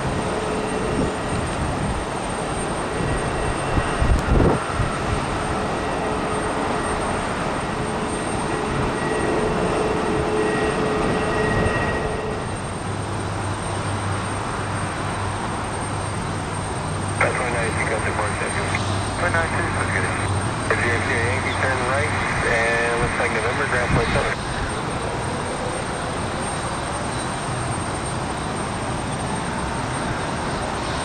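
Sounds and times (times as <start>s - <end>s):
jet engines running: 0.0s - 31.0s.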